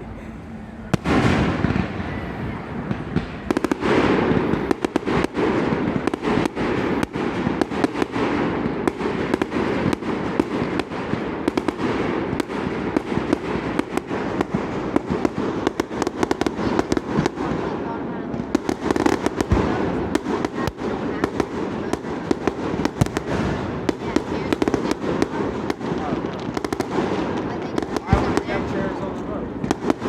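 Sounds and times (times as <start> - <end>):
fireworks bangs and crackles: 0.4 - 30.0.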